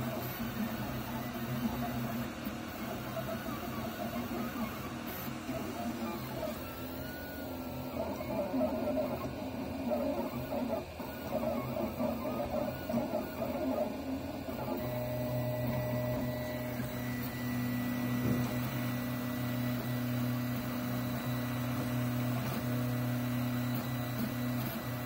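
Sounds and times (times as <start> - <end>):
printer stepper motors whining: 0.0 - 25.0.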